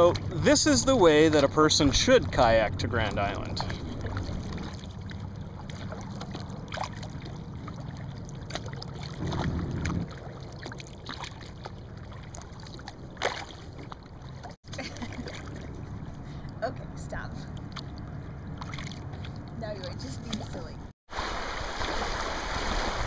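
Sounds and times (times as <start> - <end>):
water splashing and dripping: 0.0 - 16.6, 17.2 - 23.0
low boat rumble: 0.0 - 23.0.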